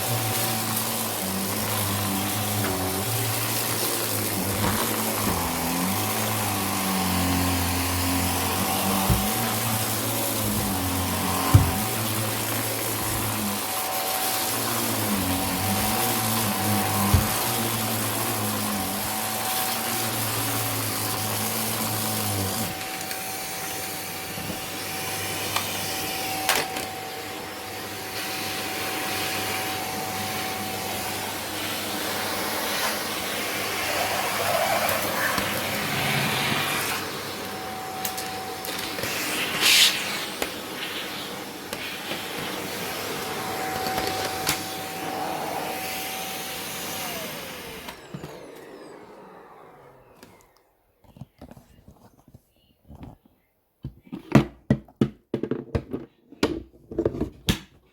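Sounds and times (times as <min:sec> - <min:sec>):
vacuum cleaner running: 0:00.0 - 0:51.3.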